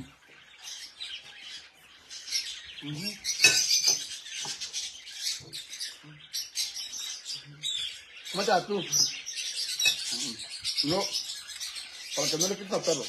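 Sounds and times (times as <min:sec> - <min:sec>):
parrots chirping and squawking: 0:00.0 - 0:13.0.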